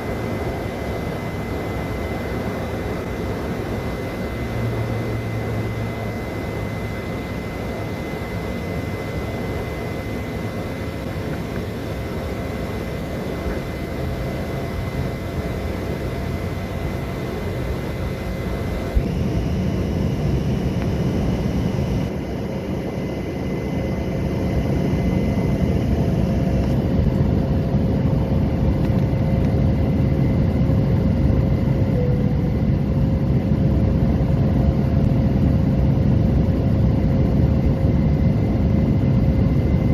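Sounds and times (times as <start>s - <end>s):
airliner engine drone: 0.0s - 39.9s
thin steady whine: 0.0s - 39.9s.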